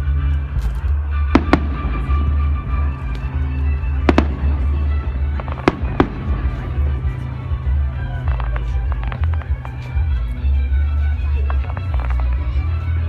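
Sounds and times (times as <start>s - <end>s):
fireworks exploding: 0.4s - 12.8s.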